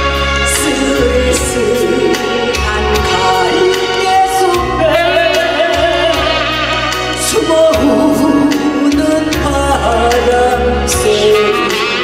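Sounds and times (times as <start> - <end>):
band accompaniment with beat: 0.0 - 12.0
woman singing into a microphone: 0.5 - 12.0.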